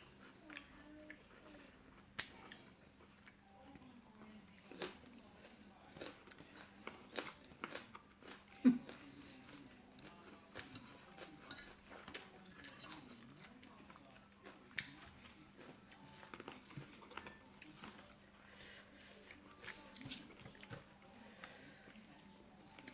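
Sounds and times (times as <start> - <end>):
person chewing food: 4.5 - 22.9.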